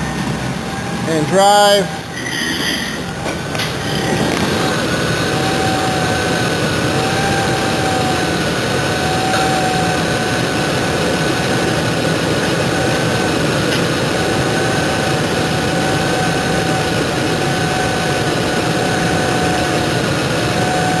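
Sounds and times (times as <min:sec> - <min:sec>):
engine idling: 0:00.0 - 0:21.0
high-pitched whine: 0:00.0 - 0:21.0.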